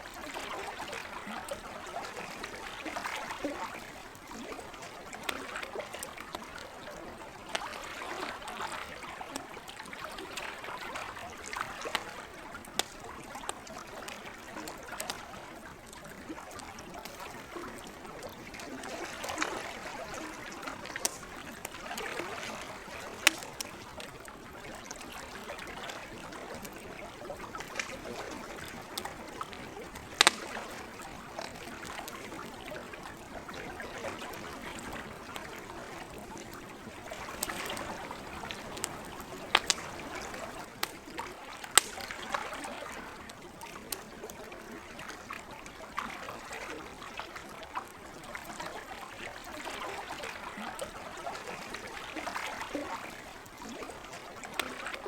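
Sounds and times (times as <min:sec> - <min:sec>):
water lapping and trickling: 0:00.0 - 0:55.0
campfire crackling and popping: 0:00.1 - 0:45.7.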